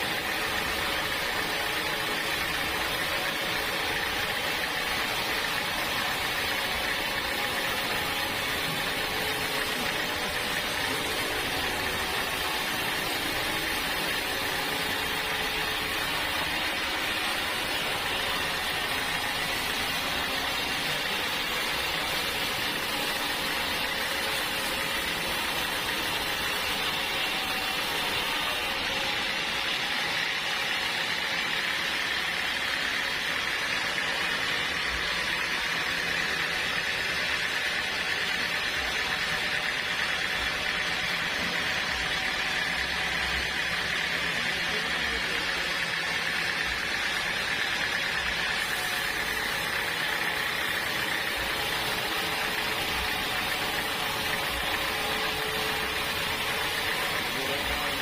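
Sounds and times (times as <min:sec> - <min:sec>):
saw cutting log: 0:00.0 - 0:58.0.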